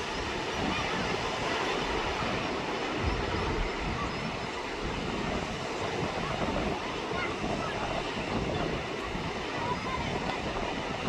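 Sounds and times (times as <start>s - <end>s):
surf washing onto beach: 0.0s - 11.0s
wind rumbling on microphone: 0.0s - 11.0s.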